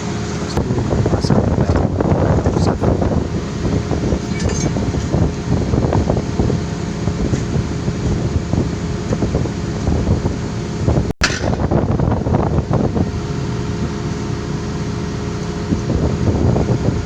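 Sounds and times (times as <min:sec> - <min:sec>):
excavator diesel engine running: 0:00.0 - 0:17.0
wind buffeting microphone: 0:00.0 - 0:17.0.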